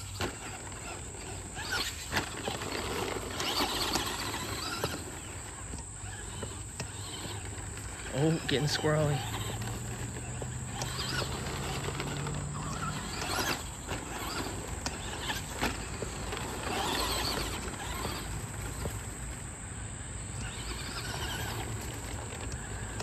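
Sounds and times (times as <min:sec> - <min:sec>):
rc truck tyres scrabbling in dirt: 0:00.0 - 0:23.0.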